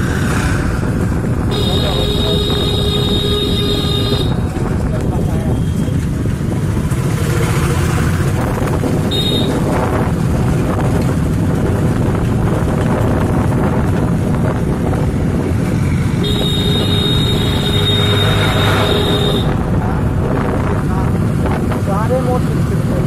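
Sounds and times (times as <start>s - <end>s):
traffic rumble: 0.0s - 23.0s
wind over microphone: 0.0s - 23.0s.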